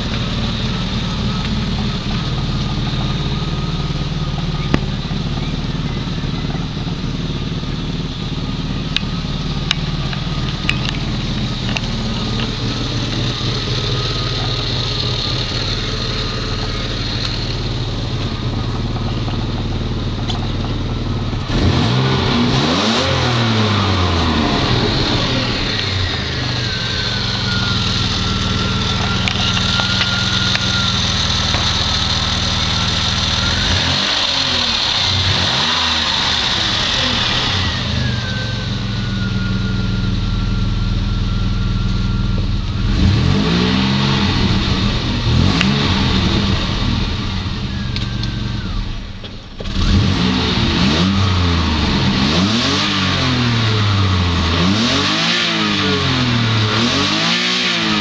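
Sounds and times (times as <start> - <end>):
high whine dropping in pitch: 0.0 - 57.0
car engine idling and revving: 0.0 - 58.0.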